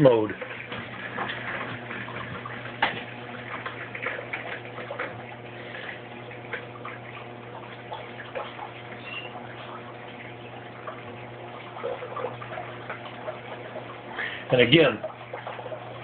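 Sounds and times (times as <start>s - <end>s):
washing machine humming: 0.0s - 16.0s
water splashing into tub: 0.0s - 16.0s.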